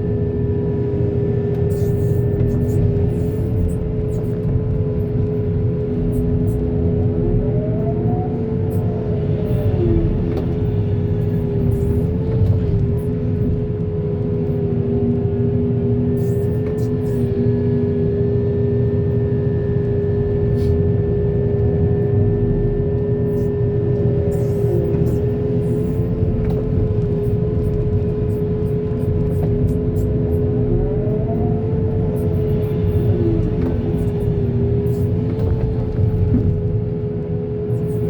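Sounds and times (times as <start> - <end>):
diesel engine rumble: 0.0 - 38.0
steady machinery whine: 0.0 - 38.0.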